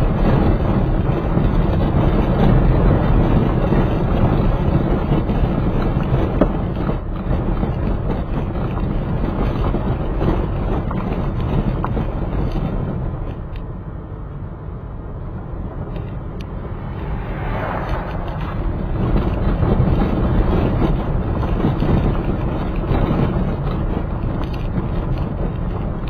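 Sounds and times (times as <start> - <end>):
wind buffeting microphone: 0.0 - 13.8, 15.0 - 26.0
road noise rumble: 0.0 - 26.0.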